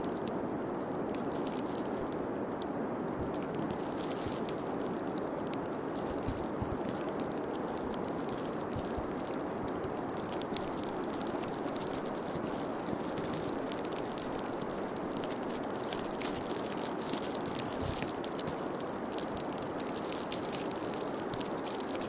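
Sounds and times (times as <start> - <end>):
faint clicks and crackles: 0.0 - 22.0.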